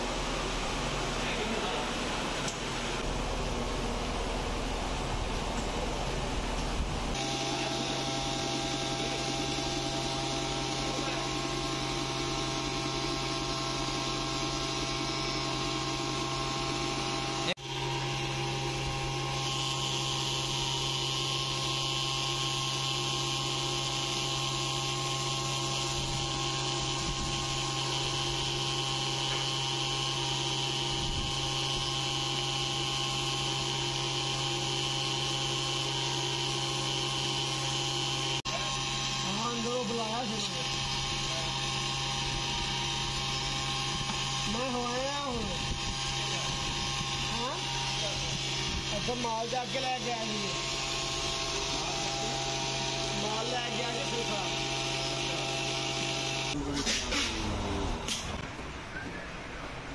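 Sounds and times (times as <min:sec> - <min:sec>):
sewing machine motor humming: 0:05.0 - 0:58.4.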